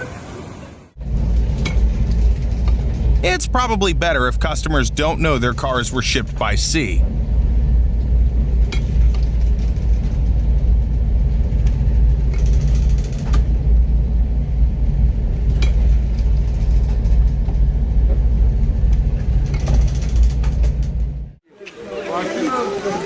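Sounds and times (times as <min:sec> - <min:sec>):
ship low rumble: 0:00.9 - 0:21.4.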